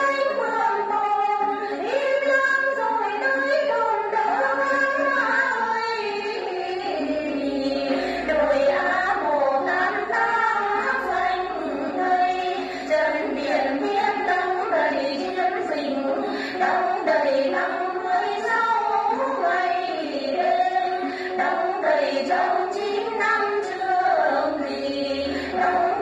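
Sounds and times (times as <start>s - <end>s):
women singing together: 0.0s - 26.0s.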